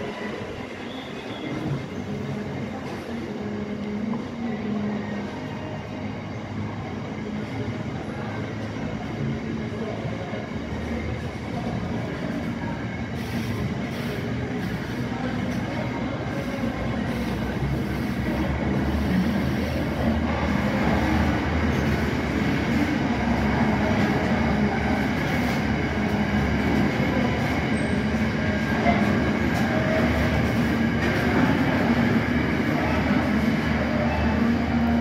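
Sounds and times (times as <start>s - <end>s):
freight train wheels rumbling on rail: 0.0s - 35.0s.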